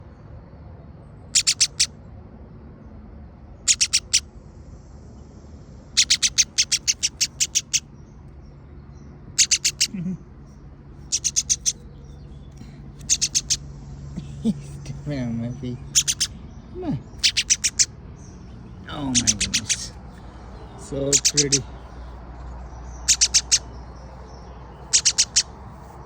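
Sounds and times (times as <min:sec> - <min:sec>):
bird chirping: 0:01.3 - 0:01.9, 0:03.6 - 0:26.0.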